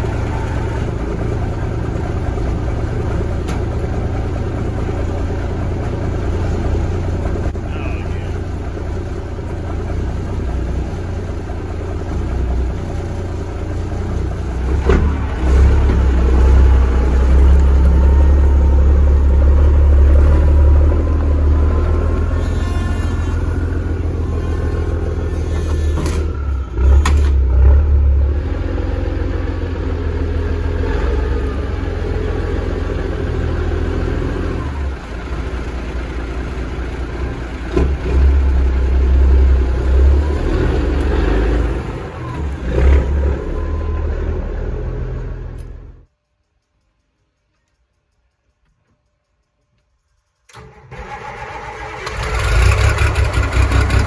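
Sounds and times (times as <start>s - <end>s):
diesel truck engine pulling away: 0.0s - 46.1s, 50.5s - 54.0s.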